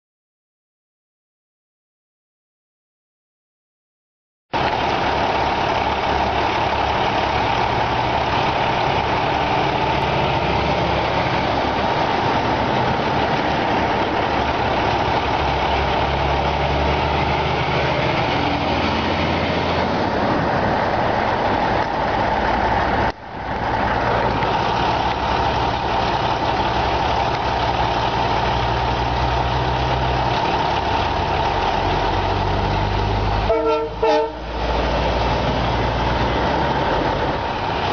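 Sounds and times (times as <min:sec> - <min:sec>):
truck diesel engines rumbling: 0:04.6 - 0:37.9.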